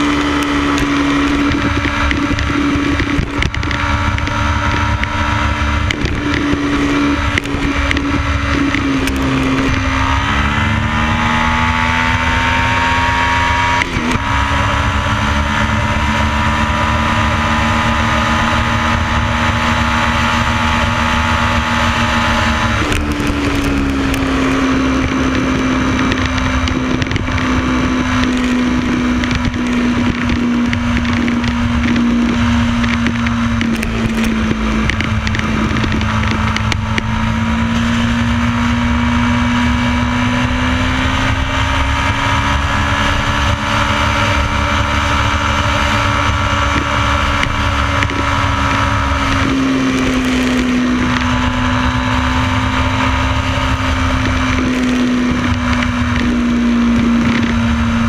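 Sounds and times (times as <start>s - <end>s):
motorcycle engine cruising: 0.0s - 58.0s
wind noise: 0.0s - 58.0s.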